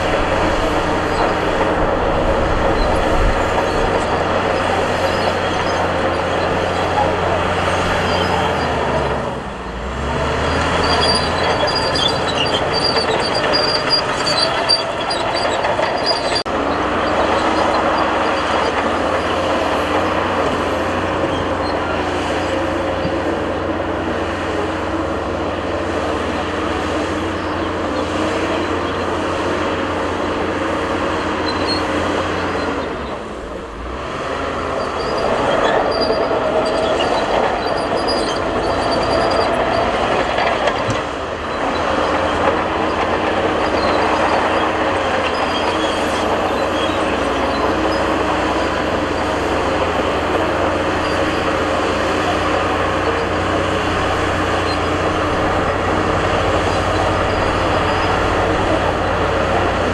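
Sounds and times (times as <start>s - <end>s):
crawler tracks clanking and squealing: 0.0s - 59.9s
diesel engine running hard: 0.0s - 59.9s.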